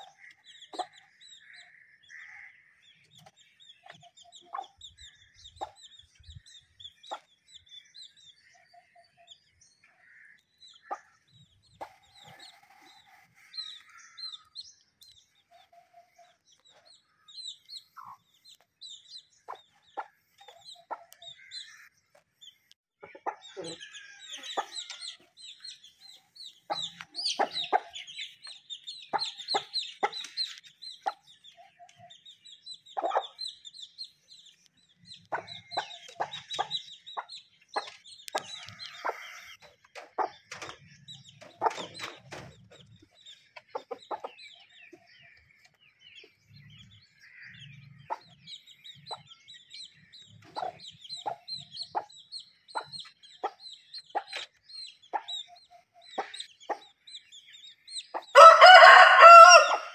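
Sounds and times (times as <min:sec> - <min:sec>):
chickens clucking: 0:00.0 - 0:02.4, 0:03.0 - 0:06.1, 0:06.7 - 0:07.4, 0:10.4 - 0:59.9
high chirps chatter: 0:08.2 - 0:59.8.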